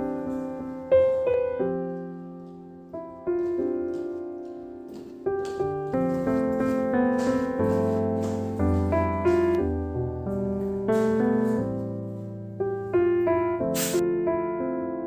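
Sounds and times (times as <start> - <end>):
mellow piano piece: 0.0 - 15.0.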